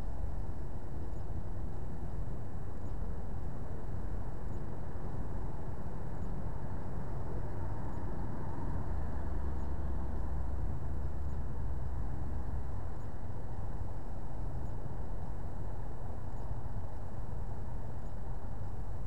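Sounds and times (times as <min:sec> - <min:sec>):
car engine idling rumble: 0:00.0 - 0:19.0.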